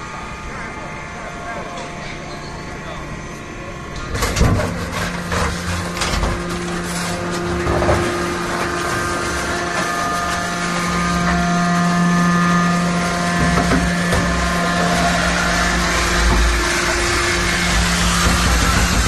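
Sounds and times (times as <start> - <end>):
baler machine hum: 0.0 - 19.0
machine whining: 0.0 - 19.0.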